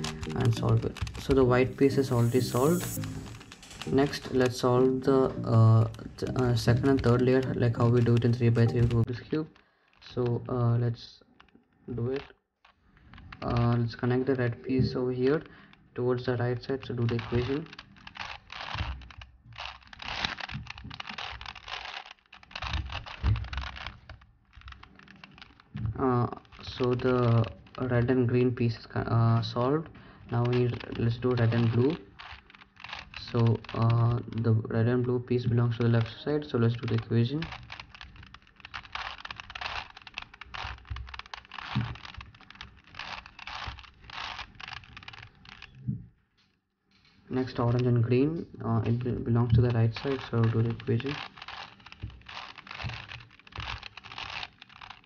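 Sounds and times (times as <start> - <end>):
puzzle cube clicking and rattling: 0.0 - 45.9, 47.4 - 55.0.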